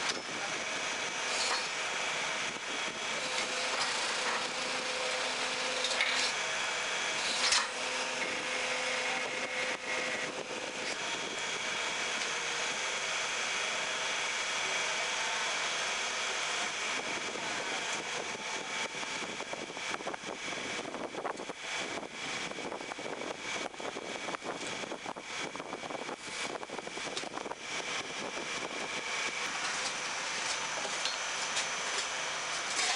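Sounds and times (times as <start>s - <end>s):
hydraulic press whining: 0.0s - 32.9s.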